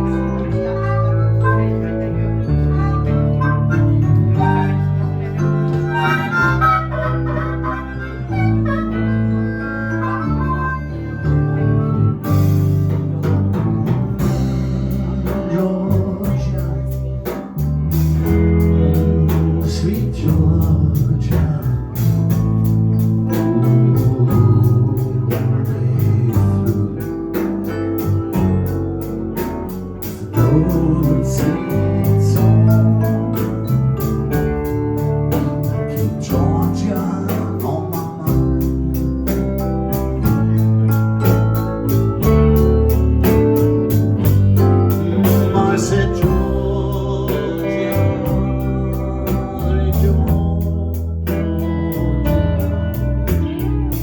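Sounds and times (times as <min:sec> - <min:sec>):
drums keeping a beat: 0:00.0 - 0:09.4, 0:11.6 - 0:54.0
blues band playing: 0:00.0 - 0:54.0
steady bass line: 0:00.0 - 0:54.0.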